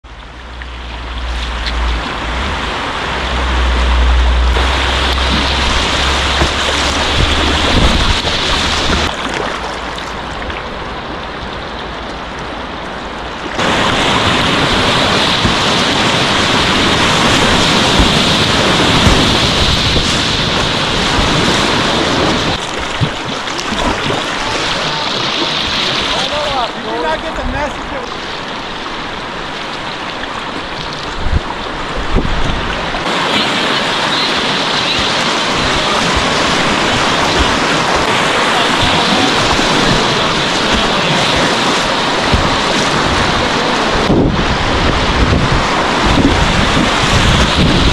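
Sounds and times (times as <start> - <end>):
river rapids rushing: 0.1 - 47.9
wind buffeting microphone: 0.3 - 27.6, 28.4 - 33.2, 33.9 - 47.9.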